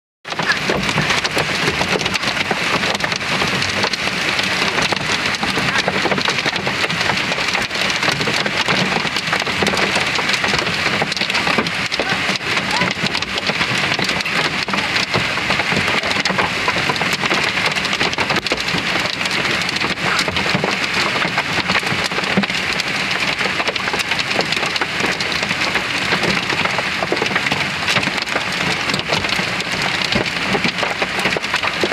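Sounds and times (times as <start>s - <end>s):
hail and rain clattering on car: 0.2s - 31.9s.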